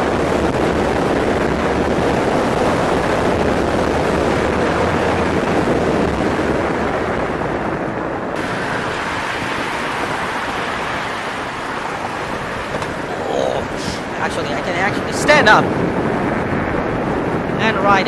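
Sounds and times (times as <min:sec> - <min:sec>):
road noise: 0:00.0 - 0:18.0
wind rushing over microphone: 0:00.0 - 0:18.0.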